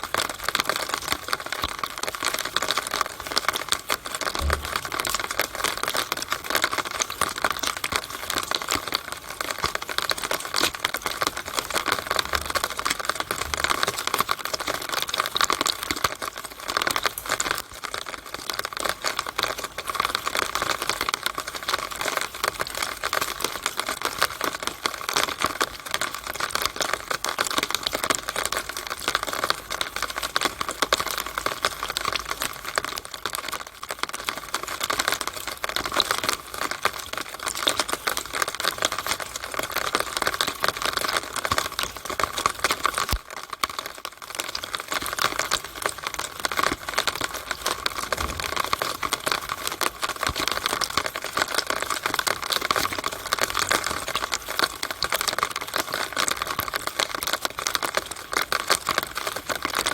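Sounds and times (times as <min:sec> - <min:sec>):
rainwater dripping in downspout: 0:00.0 - 0:59.9.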